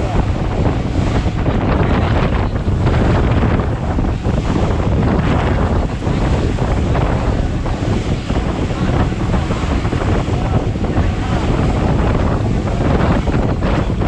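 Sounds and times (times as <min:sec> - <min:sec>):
waves rushing around boat: 0:00.0 - 0:14.0
wind buffeting microphone: 0:00.0 - 0:14.0.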